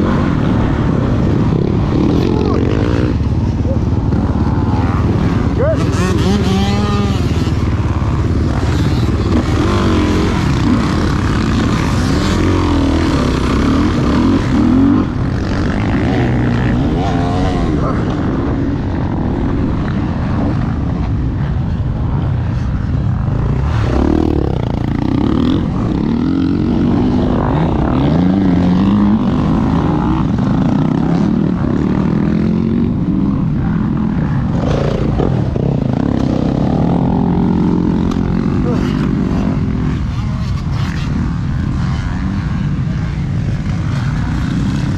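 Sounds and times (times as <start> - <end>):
dirt bike engine revving: 0.0 - 20.8, 23.2 - 44.9
steady rush of noise: 0.0 - 44.9.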